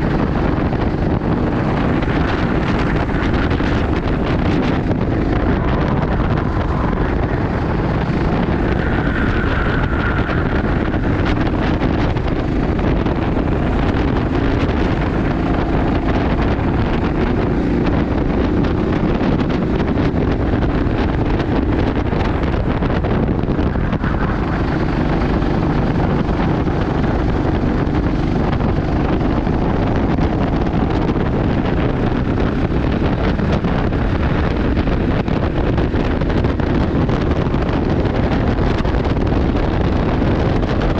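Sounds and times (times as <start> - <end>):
kart engine running: 0.0 - 40.9
wind buffeting microphone: 0.0 - 40.9.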